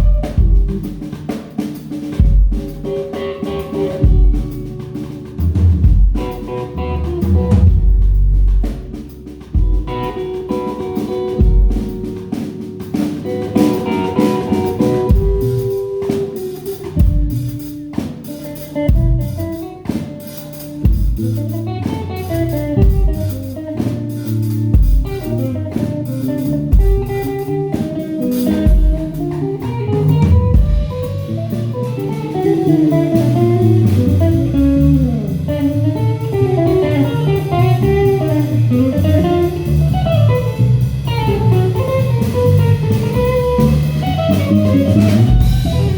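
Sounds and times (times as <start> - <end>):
bass line: 0.0 - 1.2, 2.1 - 17.8, 18.5 - 19.7, 20.8 - 45.9
drum kit: 0.0 - 45.9
guitar melody: 0.0 - 45.9.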